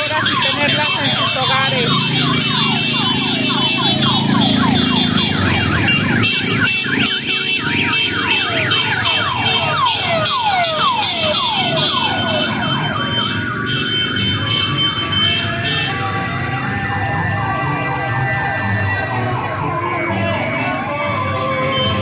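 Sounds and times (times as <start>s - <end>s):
motorcycle engines: 0.0s - 22.0s
sirens sweeping down in pitch: 0.0s - 22.0s.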